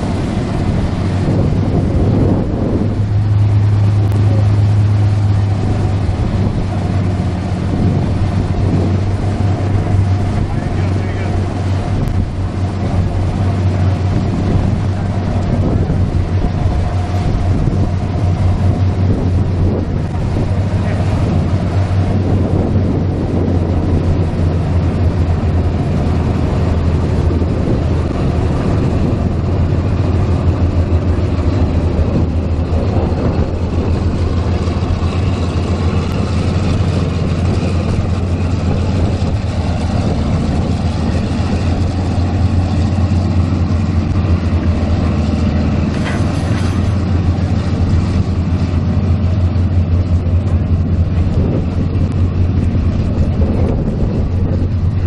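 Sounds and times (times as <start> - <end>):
propeller aircraft engines running: 0.0 - 55.0.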